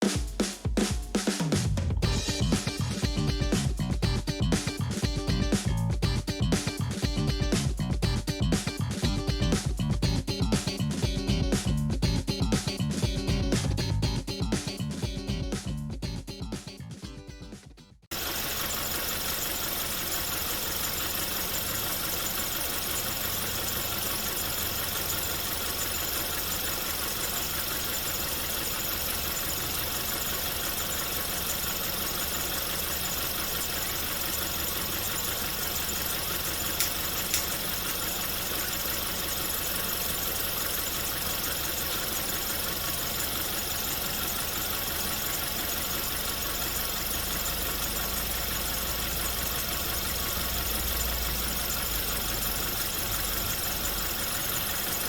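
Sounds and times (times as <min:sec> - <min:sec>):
car engine idling: 0:01.4 - 0:16.4, 0:18.1 - 0:55.0.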